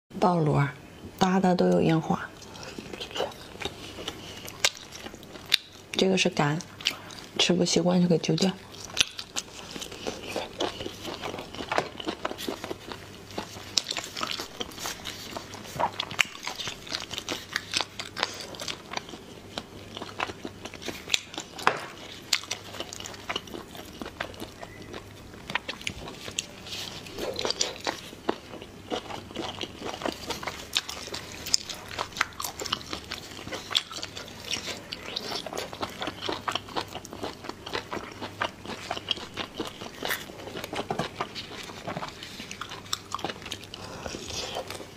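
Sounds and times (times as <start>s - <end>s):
chewing close up: 2.4s - 7.4s, 8.3s - 44.9s.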